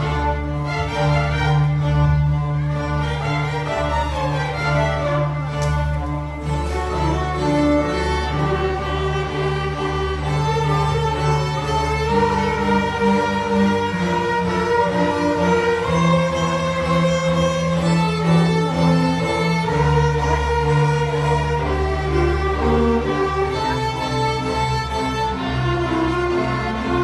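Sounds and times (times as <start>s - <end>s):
string ensemble playing: 0.0s - 27.0s.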